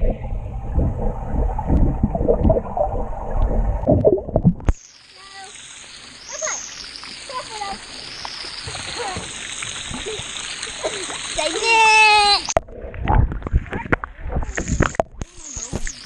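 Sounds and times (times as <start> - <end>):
muffled underwater churning: 0.0 - 16.0
water splashing and dripping: 0.7 - 16.0.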